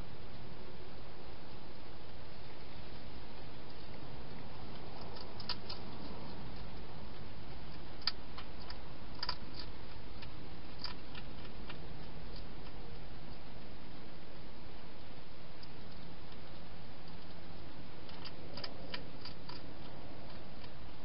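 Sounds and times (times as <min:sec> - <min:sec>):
hedgehog eating clicks and crunches: 0:02.1 - 0:21.0.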